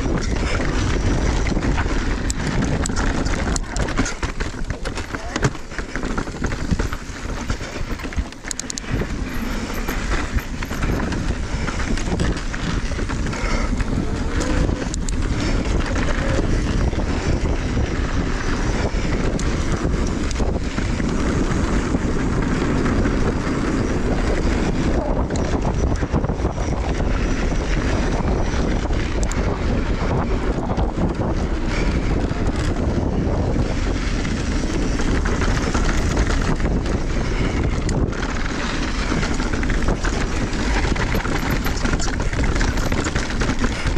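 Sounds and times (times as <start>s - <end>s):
tyres rolling on dirt: 0.0s - 25.7s, 27.1s - 43.9s
bike clicks and rattles: 0.0s - 43.9s
wind buffeting microphone: 0.0s - 43.9s.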